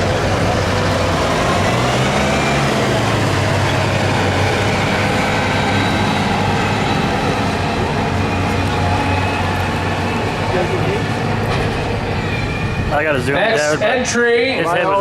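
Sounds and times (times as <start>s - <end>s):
tractor engine running: 0.0s - 14.1s.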